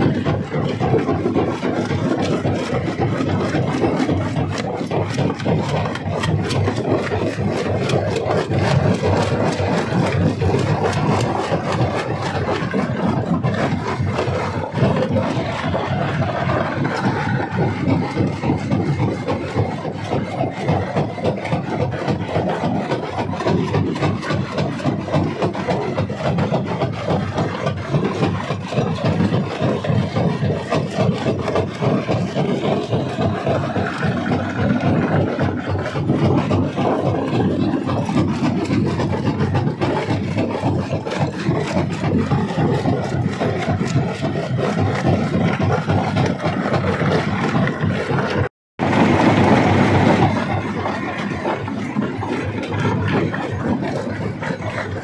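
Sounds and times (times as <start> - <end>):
heavy machine rumble: 0.0 - 55.0.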